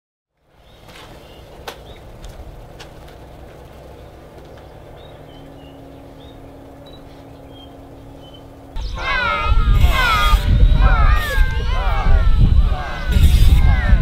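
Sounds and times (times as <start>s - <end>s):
birds chirping: 0.4s - 14.0s
steady hum: 0.4s - 14.0s
steady low rumble: 0.4s - 14.0s.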